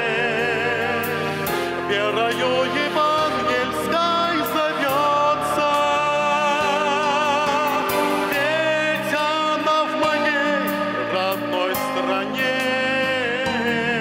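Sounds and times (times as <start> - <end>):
instrumental accompaniment: 0.0 - 14.0
man singing with vibrato: 0.0 - 14.0.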